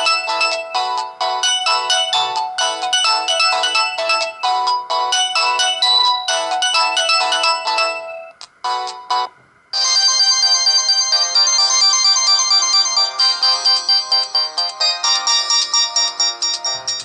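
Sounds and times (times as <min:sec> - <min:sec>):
different ringtone tune: 0:00.0 - 0:17.0
synth ringtone melody: 0:00.0 - 0:17.0.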